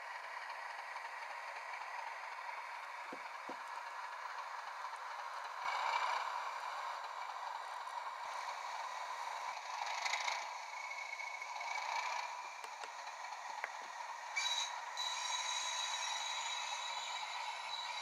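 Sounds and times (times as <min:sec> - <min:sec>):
model diesel engine sound: 0:00.0 - 0:18.0.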